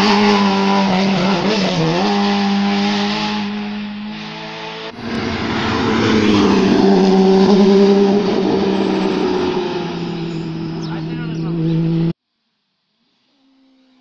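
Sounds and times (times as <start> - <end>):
rally car engine revving: 0.0 - 12.2.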